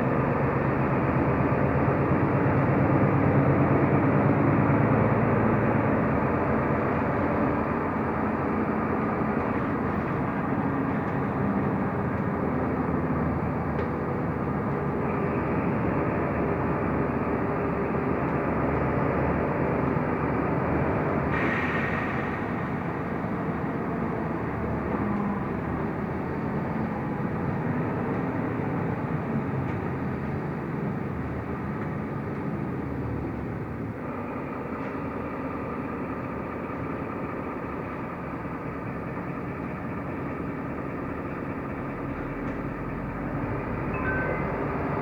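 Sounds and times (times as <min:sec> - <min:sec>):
bus engine and road noise: 0:00.0 - 0:45.0.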